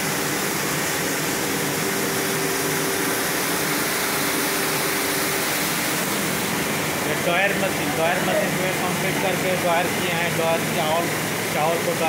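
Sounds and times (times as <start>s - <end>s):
air blower running: 0.0s - 12.0s.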